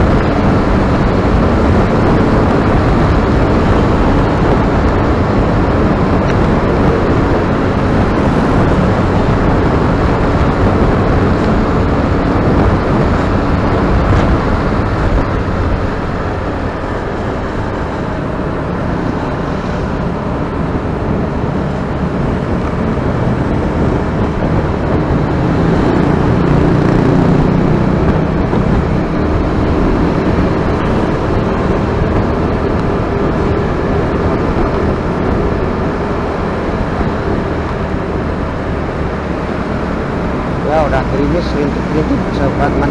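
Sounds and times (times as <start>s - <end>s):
vehicle engine and road noise: 0.0s - 42.9s.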